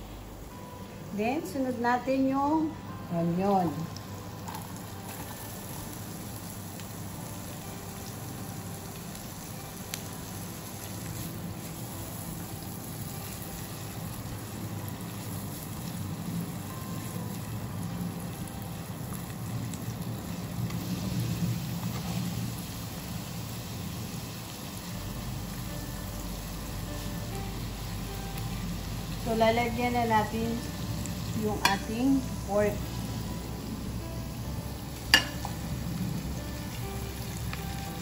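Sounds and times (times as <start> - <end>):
onion and garlic sizzling in oil: 0.0 - 38.0.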